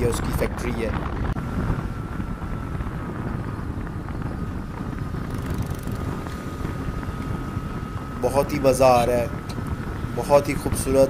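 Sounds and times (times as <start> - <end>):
faint steady whine: 0.0 - 11.0
motorcycle engine running: 0.0 - 11.0
wind buffeting microphone: 0.0 - 11.0.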